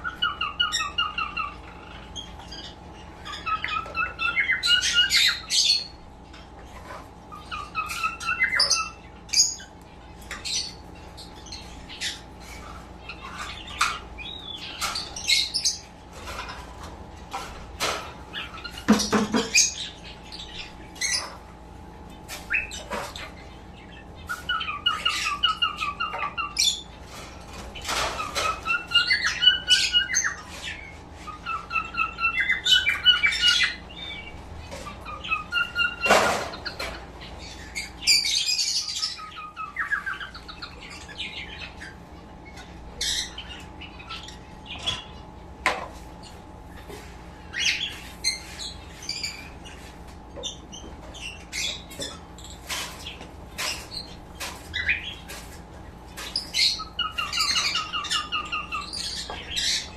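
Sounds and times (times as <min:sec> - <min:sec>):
birds chirping and squawking: 0:00.0 - 0:59.9.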